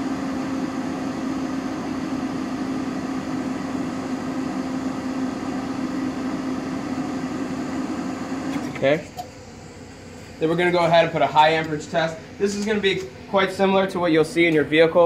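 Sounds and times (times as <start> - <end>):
battery load tester whirring: 0.0 - 13.9.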